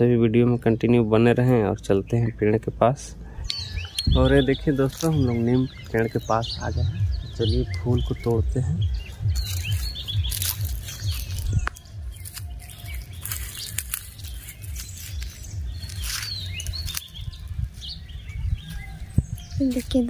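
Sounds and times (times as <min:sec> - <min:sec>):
low microphone rumble: 0:00.0 - 0:20.0
small birds chirping: 0:00.0 - 0:20.0
dry leaves crackling underfoot: 0:03.5 - 0:20.0.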